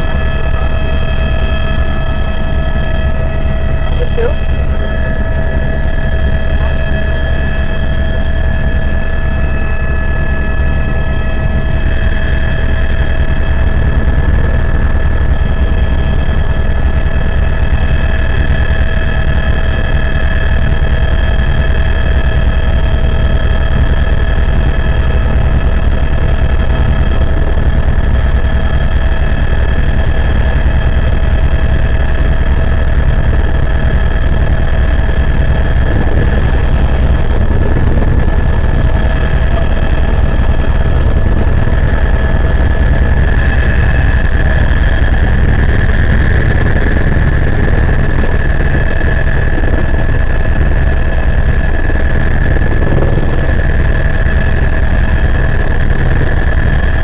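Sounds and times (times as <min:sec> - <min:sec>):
helicopter drone: 0:00.0 - 0:57.0
high-pitched whines: 0:00.0 - 0:57.0.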